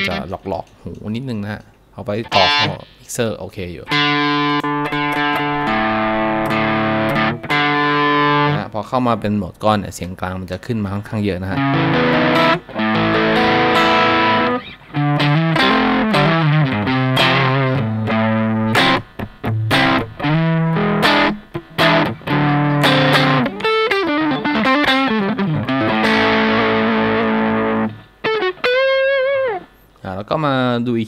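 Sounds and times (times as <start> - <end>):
distorted electric guitar riffs: 0.0 - 0.5, 2.2 - 3.1, 3.8 - 9.3, 11.4 - 29.9.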